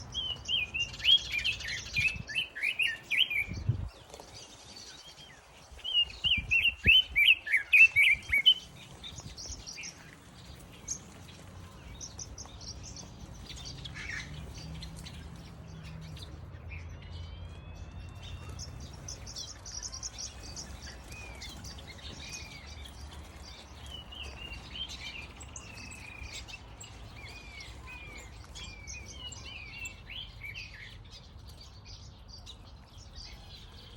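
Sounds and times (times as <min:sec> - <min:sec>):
small birds chirping and singing: 0:00.0 - 0:33.9.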